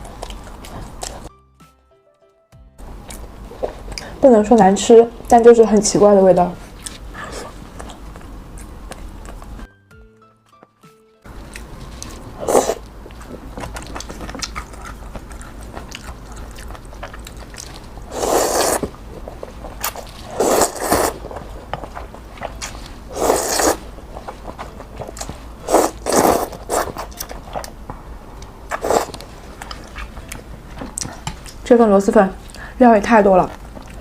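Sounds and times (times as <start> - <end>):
close-miked chewing: 0.0 - 1.3, 3.0 - 5.9, 6.6 - 9.7, 11.3 - 27.9, 28.7 - 31.7, 32.3 - 34.0.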